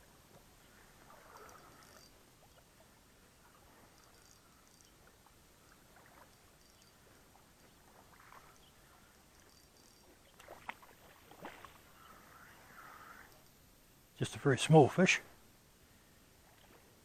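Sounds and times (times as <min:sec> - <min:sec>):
faint water sounds: 0:00.0 - 0:17.0.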